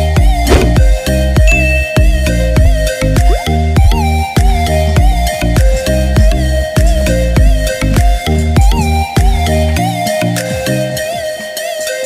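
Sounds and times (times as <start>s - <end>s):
instrumental folk melody over bass: 0.0s - 11.1s.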